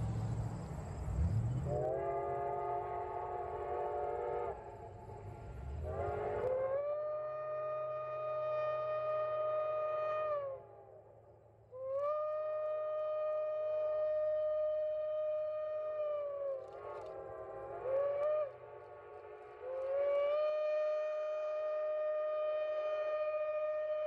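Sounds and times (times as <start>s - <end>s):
steam locomotive whistle blasts: 1.2s - 11.0s, 11.7s - 24.0s.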